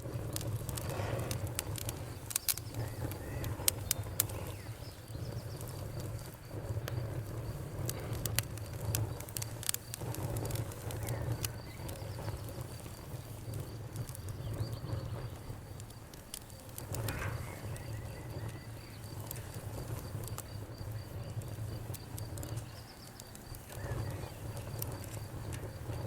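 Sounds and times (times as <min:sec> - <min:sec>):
campfire crackling: 0:00.0 - 0:26.0
low rumble of flames: 0:00.0 - 0:26.0.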